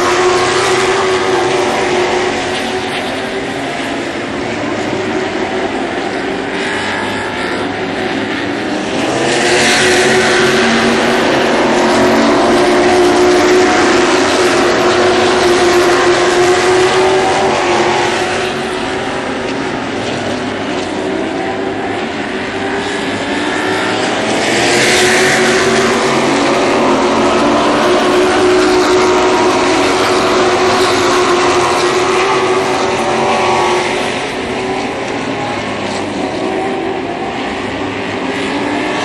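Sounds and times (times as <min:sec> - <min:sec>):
race car engines at high revs: 0:00.0 - 0:39.0.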